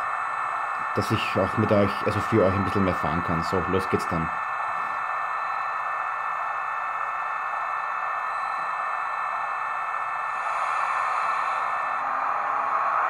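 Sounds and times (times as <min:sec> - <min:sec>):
locomotive running sound on small speaker: 0:00.0 - 0:13.0.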